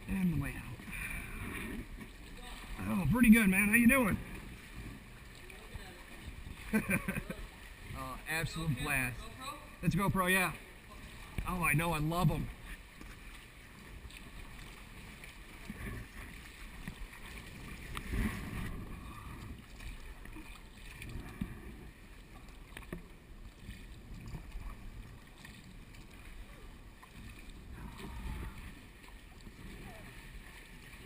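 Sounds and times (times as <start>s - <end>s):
water swishing around paddle: 0.0s - 31.0s.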